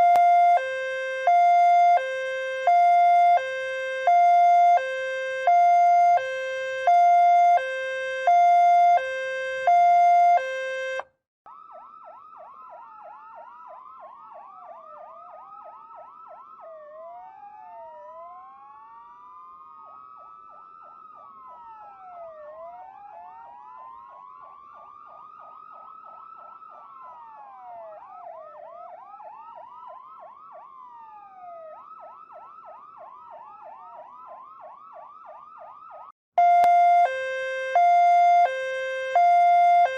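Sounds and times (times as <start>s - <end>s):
two-tone ambulance siren: 0.0s - 39.9s
wailing siren: 0.0s - 39.9s
yelping siren: 0.0s - 39.9s.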